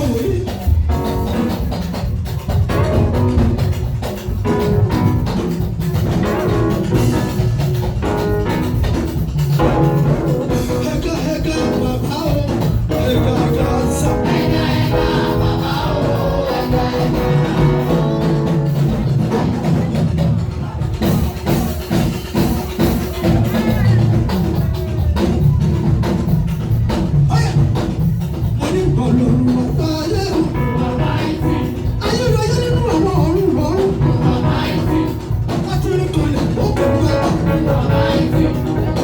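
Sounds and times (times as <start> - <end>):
gospel music with singing: 0.0 - 39.0.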